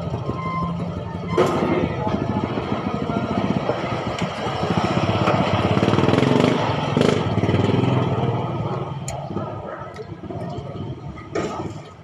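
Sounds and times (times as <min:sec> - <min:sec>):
small motorcycle engine running: 0:00.0 - 0:11.6.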